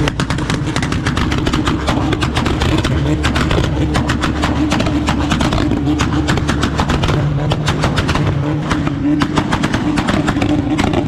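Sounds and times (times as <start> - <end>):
car engine running: 0.0 - 11.0
irregular crackling: 0.0 - 11.0.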